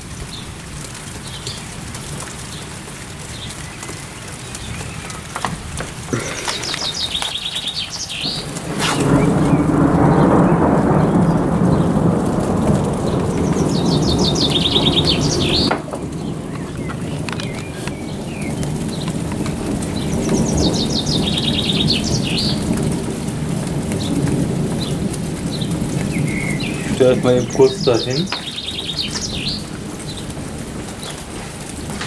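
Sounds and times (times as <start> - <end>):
steady rain: 0.0 - 32.0
songbird singing: 3.3 - 12.0, 12.8 - 22.8, 24.0 - 31.3.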